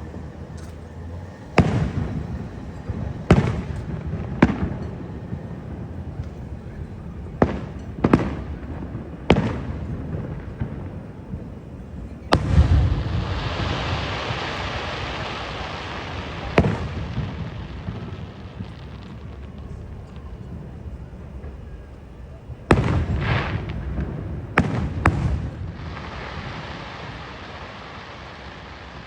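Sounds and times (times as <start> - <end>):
big firework boom: 0.0 - 29.0
firework bangs: 0.0 - 29.0
firework crackling: 0.0 - 29.0.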